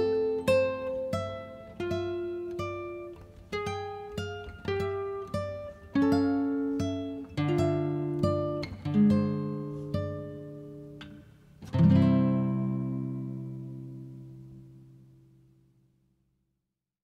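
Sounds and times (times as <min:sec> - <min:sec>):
acoustic guitar picking: 0:00.0 - 0:15.4.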